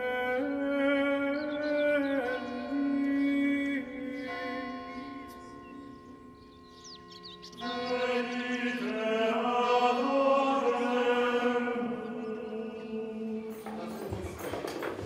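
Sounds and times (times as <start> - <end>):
slow sung chant: 0.0 - 5.8, 7.5 - 14.1.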